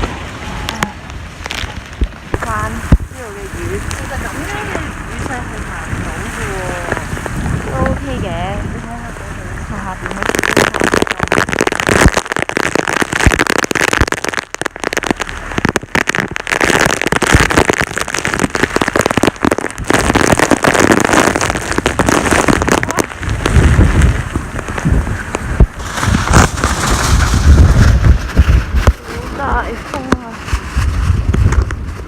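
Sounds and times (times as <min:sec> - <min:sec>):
heavy rain: 0:00.0 - 0:32.0
wind buffeting microphone: 0:00.0 - 0:32.0.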